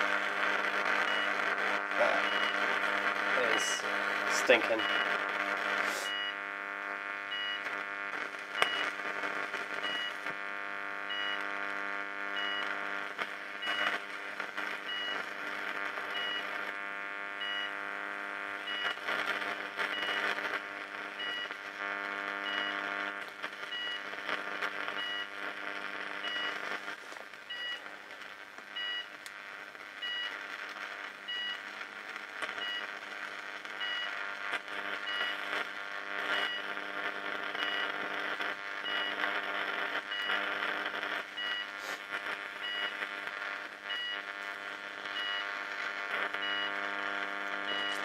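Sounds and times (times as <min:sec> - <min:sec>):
electric arc crackling and snapping: 0:00.0 - 0:48.0
electrical hum: 0:00.0 - 0:48.0.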